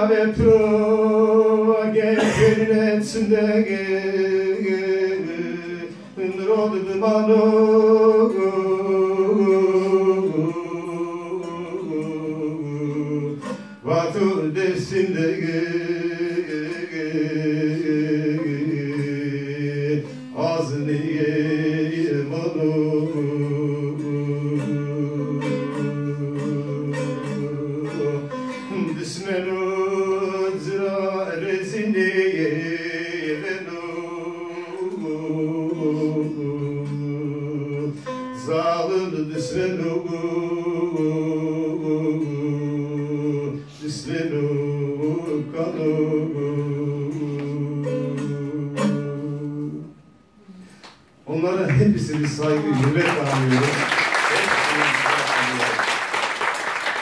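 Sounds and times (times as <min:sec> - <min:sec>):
man singing slow song: 0:00.0 - 0:50.6
plucked string instrument: 0:00.0 - 0:51.1.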